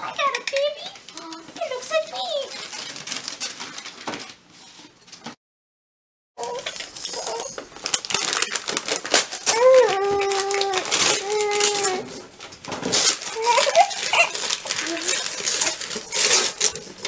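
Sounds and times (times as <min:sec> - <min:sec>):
wrapping paper crackling and tearing: 0:01.0 - 0:04.7, 0:06.4 - 0:17.0.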